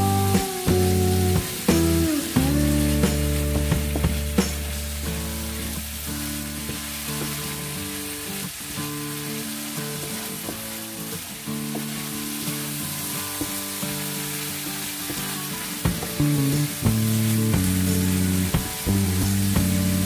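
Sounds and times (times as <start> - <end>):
food sizzling in frying pan: 0.0 - 20.0.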